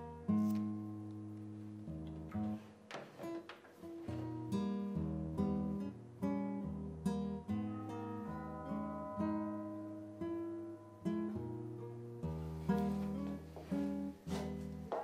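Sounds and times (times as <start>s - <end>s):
plucked acoustic guitar music: 0.0s - 15.0s.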